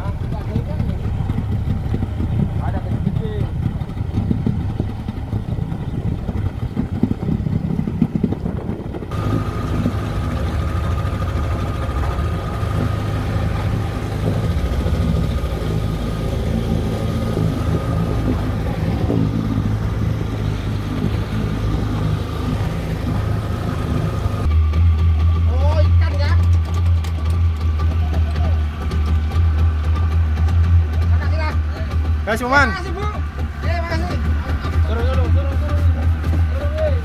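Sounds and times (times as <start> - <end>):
motorboat engine running: 0.0 - 37.0
water noise: 0.0 - 37.0
wind: 0.0 - 37.0.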